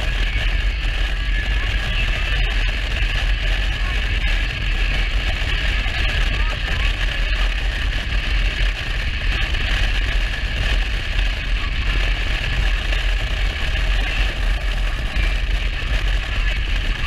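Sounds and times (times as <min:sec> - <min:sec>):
motorcycle engine running: 0:00.0 - 0:17.0
wind rush buffeting microphone: 0:00.0 - 0:17.0.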